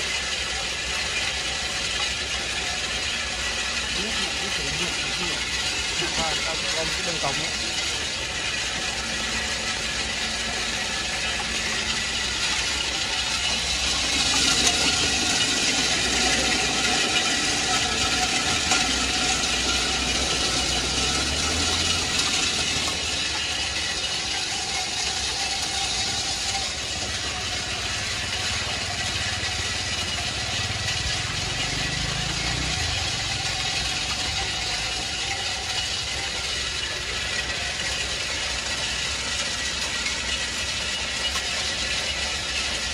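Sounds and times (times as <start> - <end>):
machine motor running: 0.0 - 42.9
shells rattling and grinding: 0.0 - 42.9.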